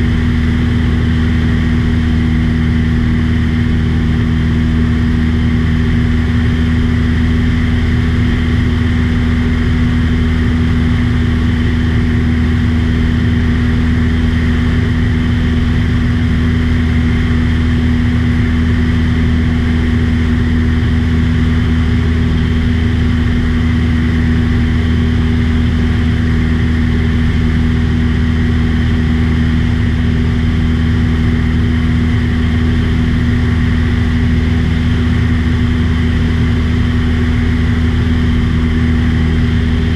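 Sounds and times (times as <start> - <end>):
aircraft engine drone in cabin: 0.0 - 39.9.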